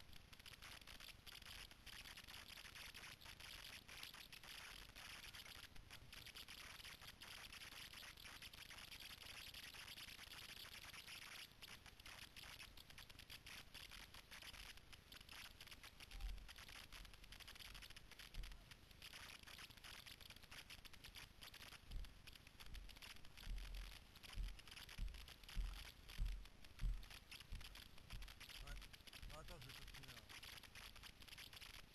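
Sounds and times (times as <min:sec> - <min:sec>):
faint steady hiss: 0:00.0 - 0:31.9.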